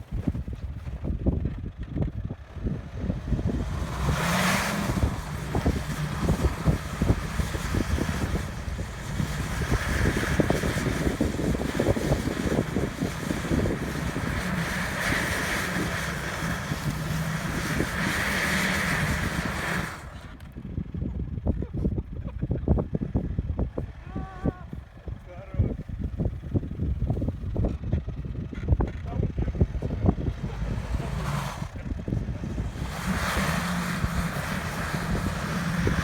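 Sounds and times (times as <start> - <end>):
suv engine under load: 0.0 - 21.4, 25.9 - 36.0
wind on microphone: 0.0 - 36.0.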